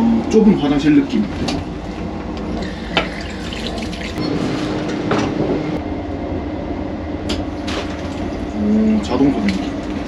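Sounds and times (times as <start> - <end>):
train rumble and hum: 0.0 - 10.0.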